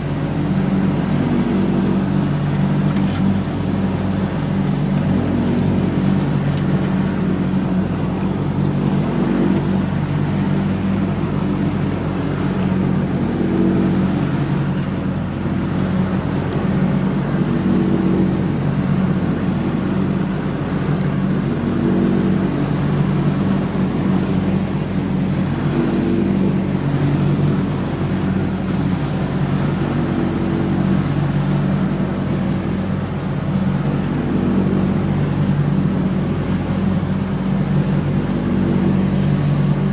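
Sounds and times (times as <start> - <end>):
lawn tractor engine mowing: 0.0 - 39.9.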